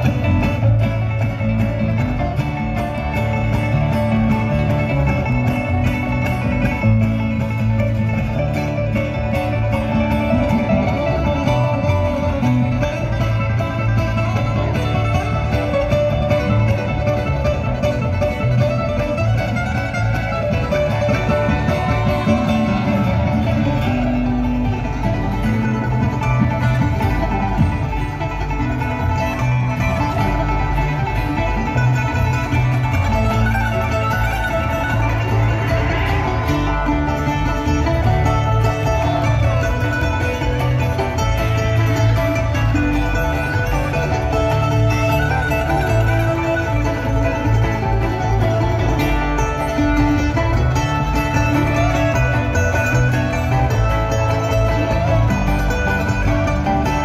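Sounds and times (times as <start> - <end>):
acoustic guitars picking: 0.0 - 57.0
banjo: 0.0 - 57.0
upright bass: 0.0 - 57.0.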